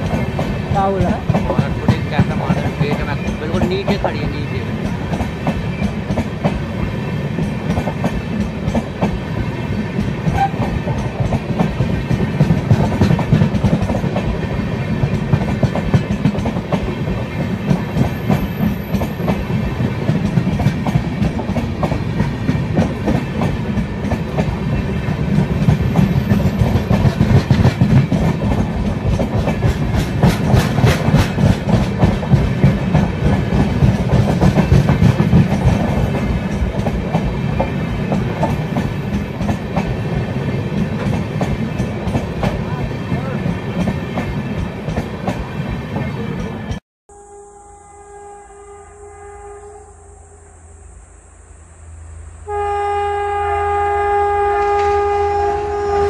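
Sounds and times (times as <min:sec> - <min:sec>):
heavy train rumble: 0:00.0 - 0:46.8, 0:48.6 - 0:56.0
train wheels clattering: 0:00.0 - 0:46.8.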